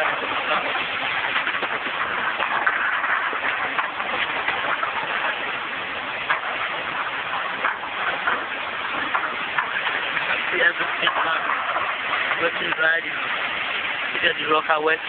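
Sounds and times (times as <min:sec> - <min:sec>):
wash plant machine rattling: 0:00.0 - 0:15.0.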